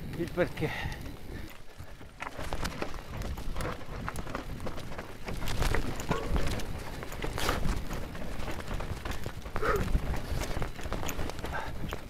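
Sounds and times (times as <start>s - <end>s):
wind on camera: 0.0s - 12.0s
bike clattering over stones: 0.1s - 12.0s.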